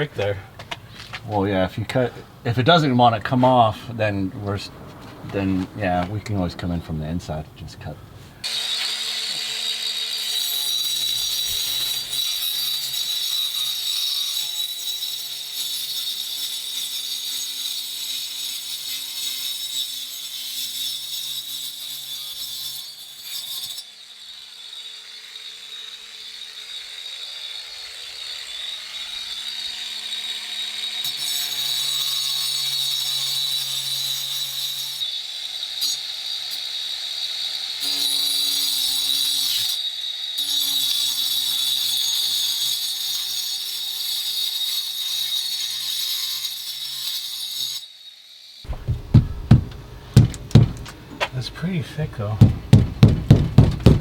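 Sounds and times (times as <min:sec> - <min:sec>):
angle grinder cutting wall: 0:08.4 - 0:54.0.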